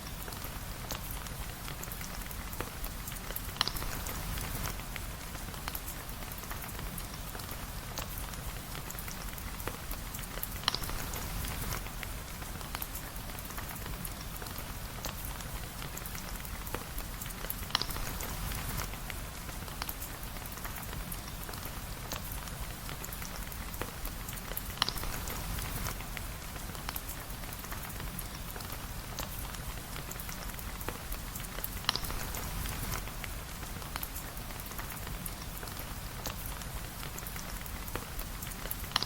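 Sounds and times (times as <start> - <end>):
steady rain falling: 0.0 - 39.0
fireplace crackling: 0.1 - 39.0.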